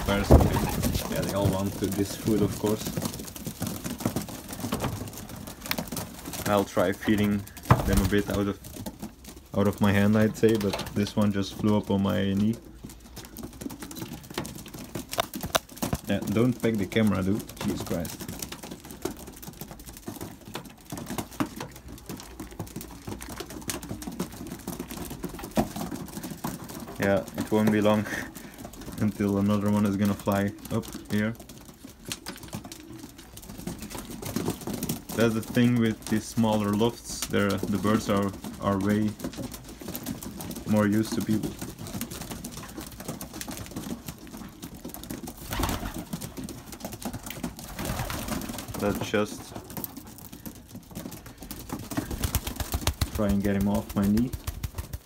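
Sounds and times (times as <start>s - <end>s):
pigeon beak pecking seeds: 0.0s - 55.0s.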